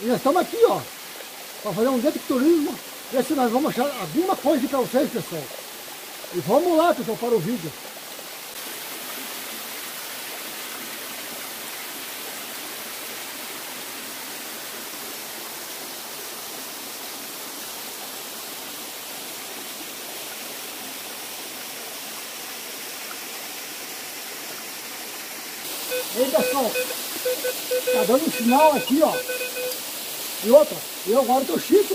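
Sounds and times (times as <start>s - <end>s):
small waterfall splashing: 0.0s - 31.9s.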